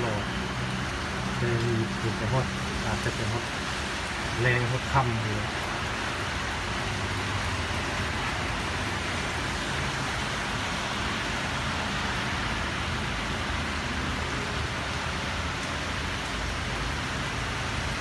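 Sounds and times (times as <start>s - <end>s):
heavy rain on flooded ground: 0.0s - 18.0s.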